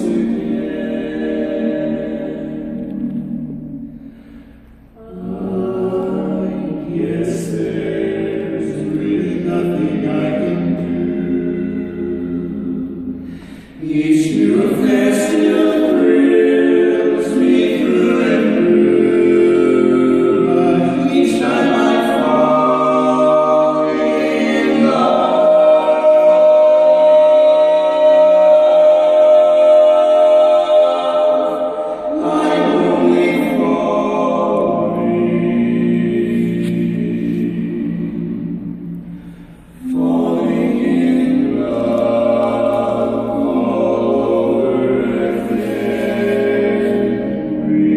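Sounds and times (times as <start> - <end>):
men singing a cappella in harmony: 0.0 - 47.9.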